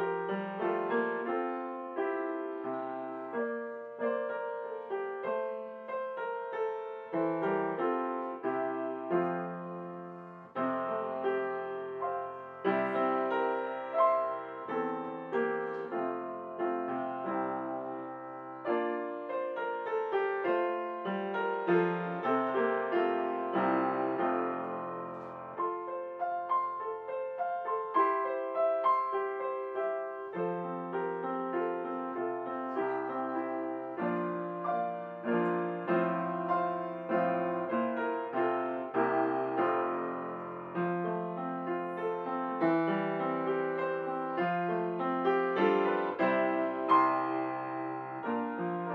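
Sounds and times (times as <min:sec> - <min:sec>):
piano chords: 0:00.0 - 0:48.9.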